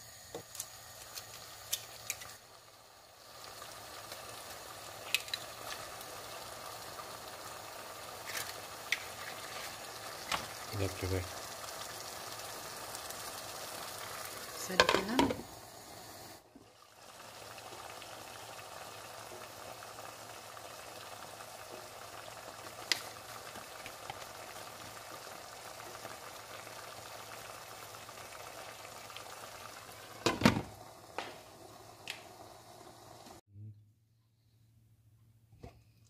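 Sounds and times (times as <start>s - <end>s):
eggs sizzling in a frying pan: 0.0s - 33.4s.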